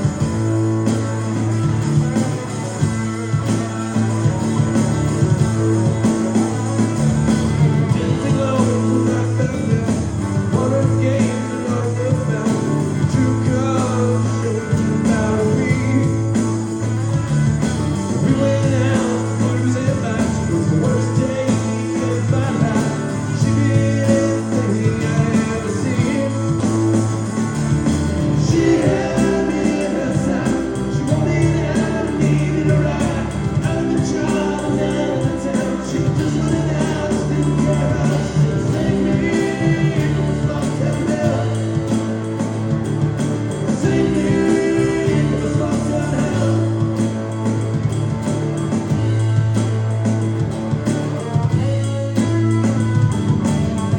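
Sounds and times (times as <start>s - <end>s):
person singing: 0.0s - 48.2s
live rock band playing: 0.0s - 53.9s.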